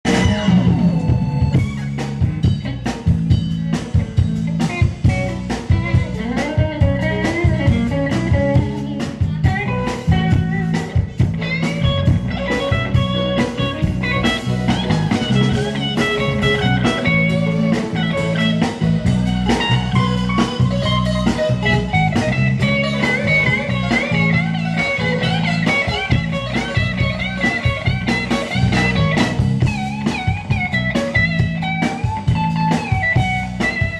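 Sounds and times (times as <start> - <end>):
bass line: 0.0 - 33.9
drums: 0.0 - 33.9
lead guitar with bent notes: 0.0 - 33.9.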